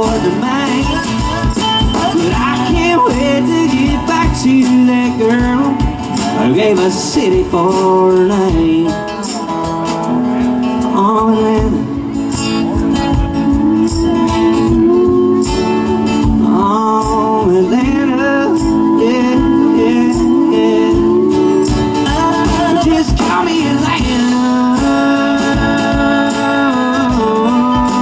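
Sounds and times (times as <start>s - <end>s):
drum kit beat: 0.0s - 28.0s
person singing: 0.0s - 28.0s
strummed acoustic guitar: 0.0s - 28.0s.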